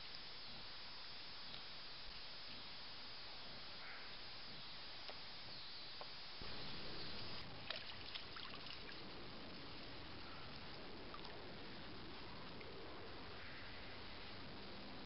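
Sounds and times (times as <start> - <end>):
outdoor microphone hiss: 0.0 - 15.0.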